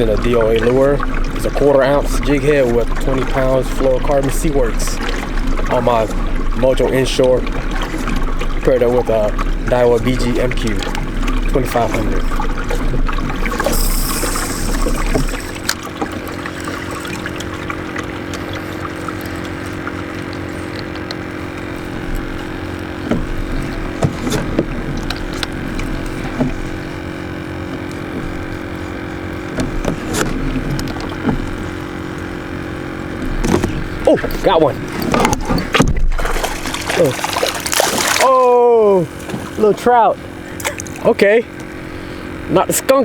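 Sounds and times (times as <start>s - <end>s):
clicks and knocks on boat: 0.0s - 42.6s
steady hum: 0.0s - 43.0s
water lapping against kayak hull: 0.0s - 43.0s.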